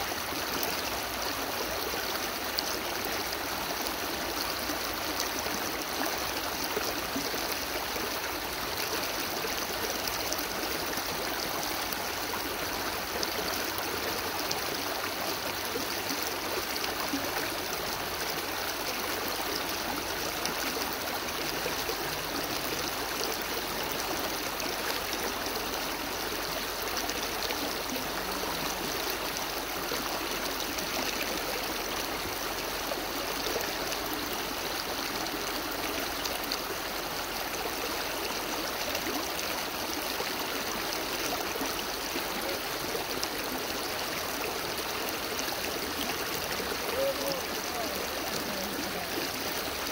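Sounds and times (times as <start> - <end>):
creek water splashing and gurgling: 0.0 - 49.9.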